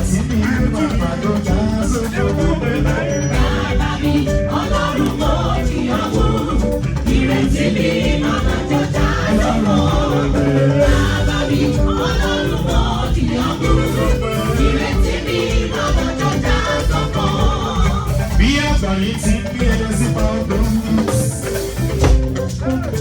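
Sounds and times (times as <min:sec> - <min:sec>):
gospel singing over a beat: 0:00.0 - 0:22.9.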